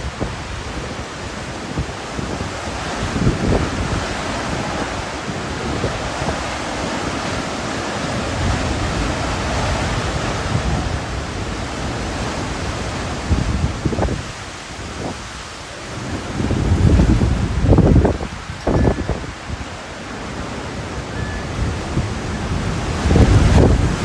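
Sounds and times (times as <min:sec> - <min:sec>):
gusts buffeting microphone: 0:00.0 - 0:24.0
hurricane wind rushing: 0:00.0 - 0:24.0.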